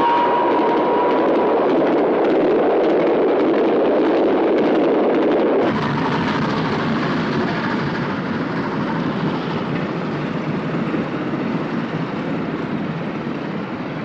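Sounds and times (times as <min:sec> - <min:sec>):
steam train running: 0:00.0 - 0:14.0.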